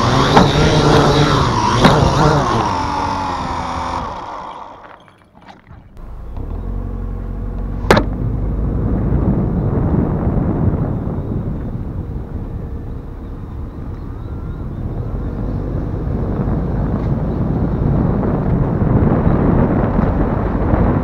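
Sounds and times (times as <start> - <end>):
drone motors whining: 0.0 - 20.7
low steady rumble: 0.0 - 21.0.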